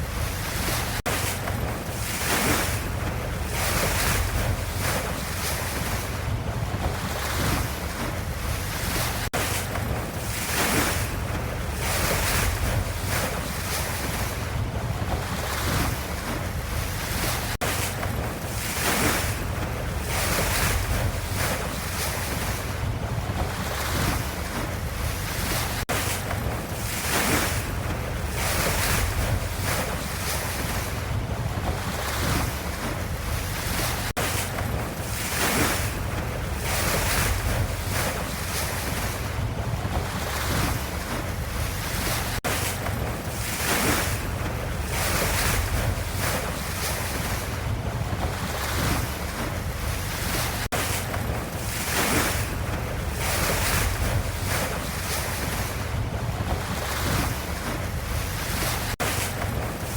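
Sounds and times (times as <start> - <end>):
ocean waves rushing: 0.0 - 59.9.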